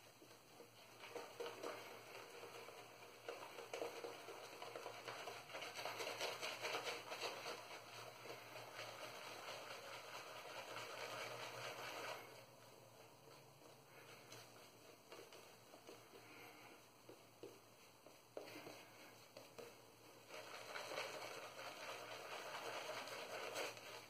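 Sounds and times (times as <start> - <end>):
shaving brush scrubbing lather: 0.3 - 24.0.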